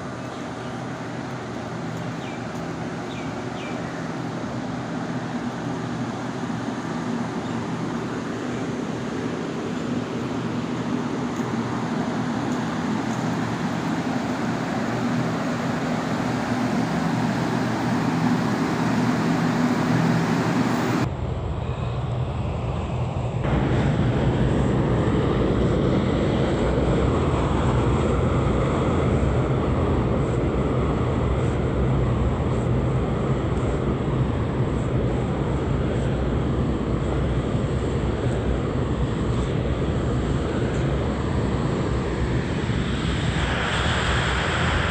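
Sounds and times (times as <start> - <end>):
low engine rumble: 0.0 - 44.9.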